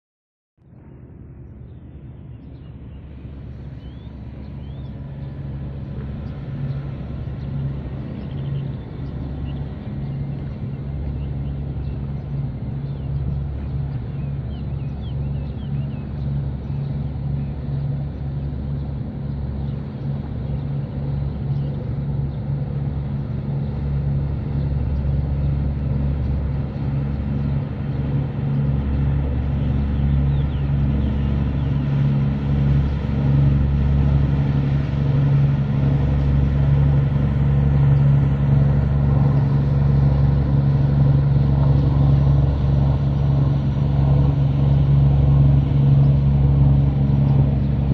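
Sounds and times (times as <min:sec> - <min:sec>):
boat engines droning: 0:00.6 - 0:47.9.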